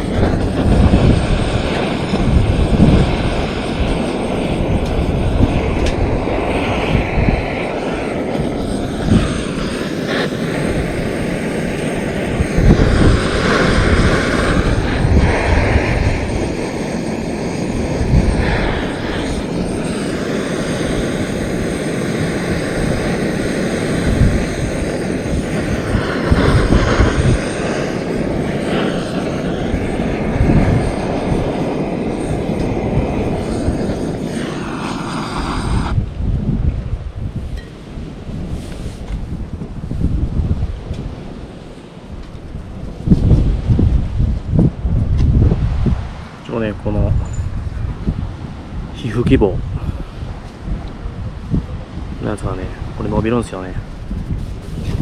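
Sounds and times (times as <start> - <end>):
gas burner roaring: 0.0 - 55.0
wind on microphone: 0.0 - 55.0.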